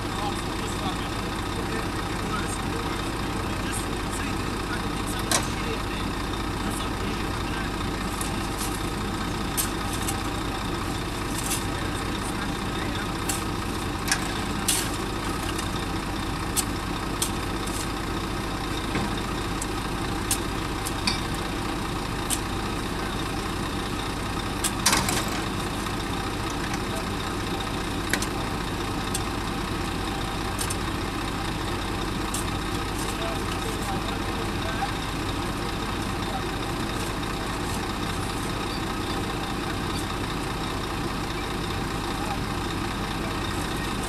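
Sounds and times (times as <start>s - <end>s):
diesel machinery idling: 0.0s - 44.0s.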